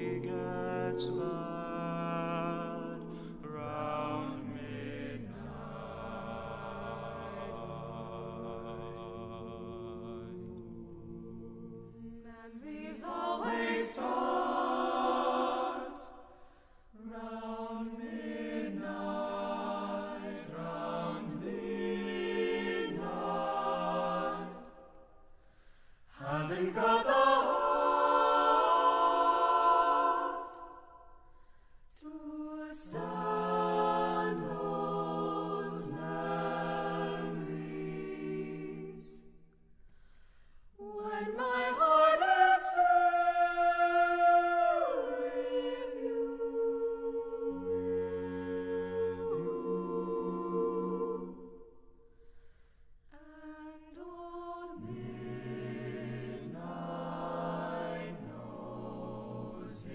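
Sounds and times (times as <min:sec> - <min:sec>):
a cappella ensemble singing: 0:00.0 - 0:59.9.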